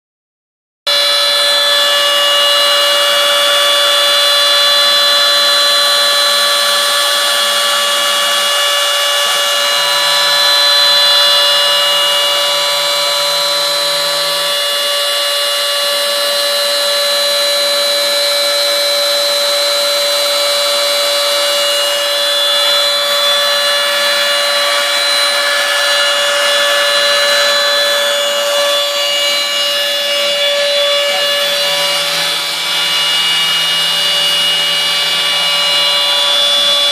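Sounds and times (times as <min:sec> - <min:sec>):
router spindle whining: 0:00.9 - 0:36.9.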